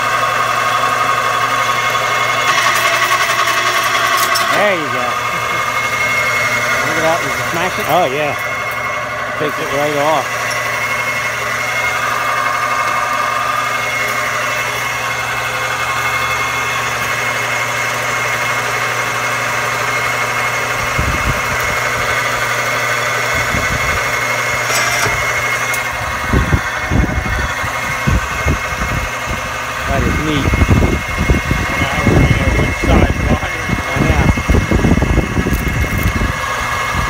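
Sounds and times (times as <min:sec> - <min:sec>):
electric motor humming: 0:00.0 - 0:37.0.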